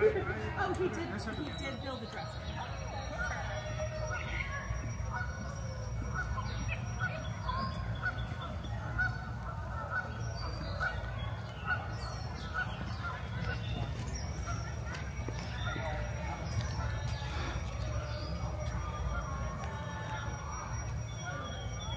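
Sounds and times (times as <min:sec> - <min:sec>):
geese honking: 0:02.4 - 0:21.9.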